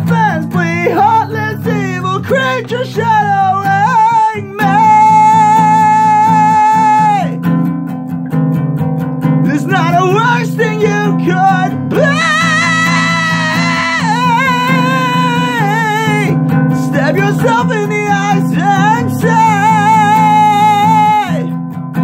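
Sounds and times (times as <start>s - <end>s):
person singing: 0.0s - 7.4s, 9.4s - 21.6s
strummed guitar: 0.0s - 22.0s.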